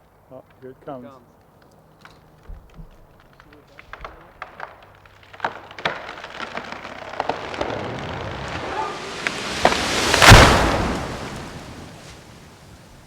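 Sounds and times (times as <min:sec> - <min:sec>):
rushing of falling tree: 0:00.0 - 0:13.0
tree crashing to ground: 0:00.0 - 0:13.0
wood cracking and snapping: 0:00.0 - 0:13.0.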